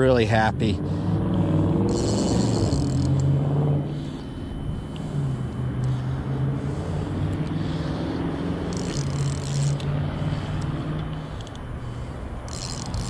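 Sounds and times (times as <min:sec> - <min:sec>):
low engine-like hum: 0:00.0 - 0:13.0
short high buzzes: 0:00.8 - 0:13.0.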